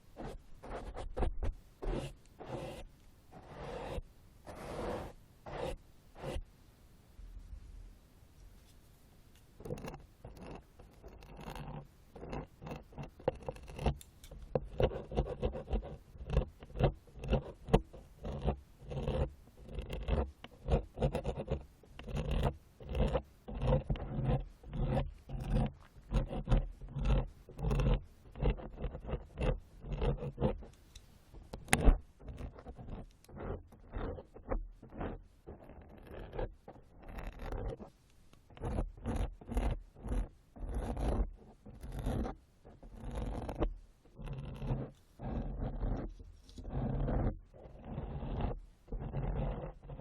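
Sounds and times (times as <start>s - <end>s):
ear-cleaning tool scraping microphone: 0.0s - 6.4s, 9.6s - 50.0s.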